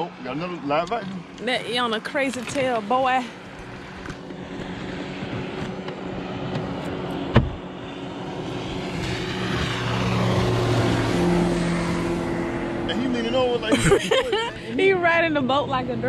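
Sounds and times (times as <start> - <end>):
outboard motor running at speed: 0.0 - 16.0.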